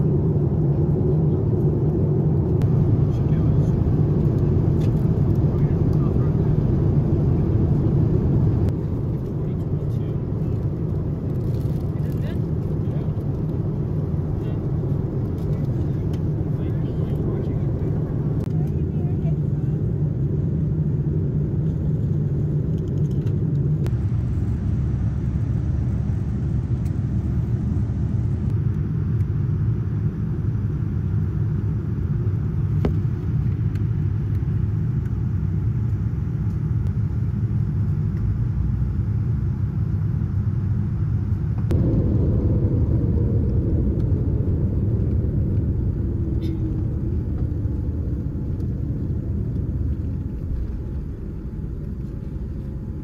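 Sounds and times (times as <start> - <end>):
jet engine and airflow rumble: 0.0 - 53.0.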